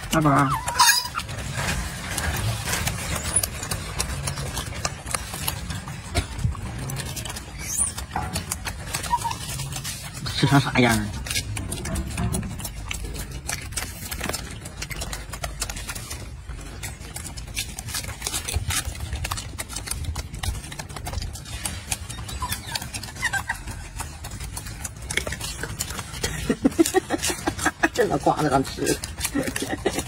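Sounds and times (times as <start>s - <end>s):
monkey chewing food: 0.0s - 30.0s.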